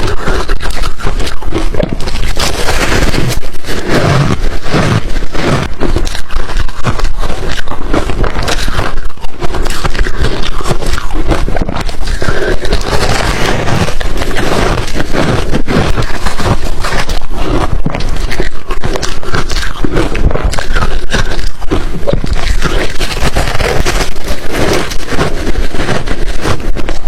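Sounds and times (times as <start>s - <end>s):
ice crunching in mouth: 0.0s - 27.0s.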